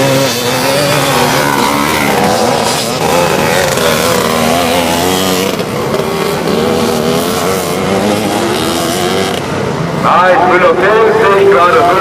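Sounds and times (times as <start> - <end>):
motocross bike engines racing: 0.0 - 12.0.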